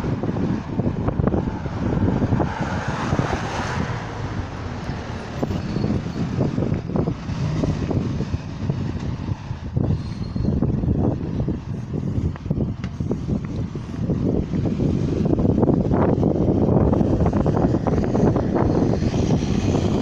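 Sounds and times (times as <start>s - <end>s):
road traffic passing: 0.0s - 20.0s
vehicle passing close: 0.0s - 20.0s
wind buffeting microphone: 0.0s - 20.0s.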